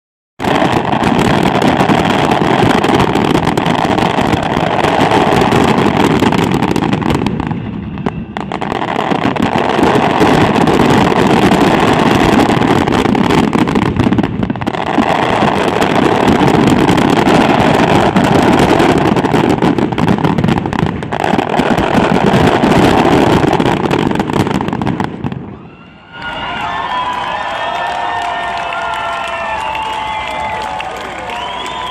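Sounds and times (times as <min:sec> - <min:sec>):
fireworks bursting: 0:00.4 - 0:31.9.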